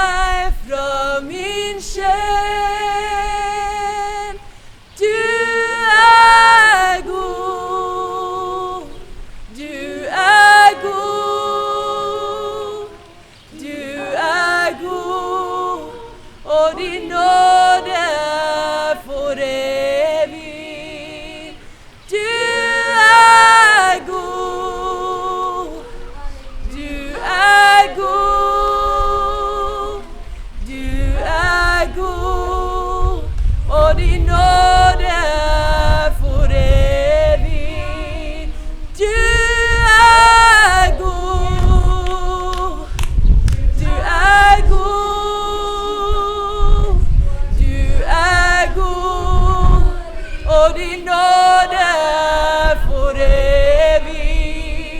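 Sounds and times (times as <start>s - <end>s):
voices singing unaccompanied: 0.0s - 54.9s.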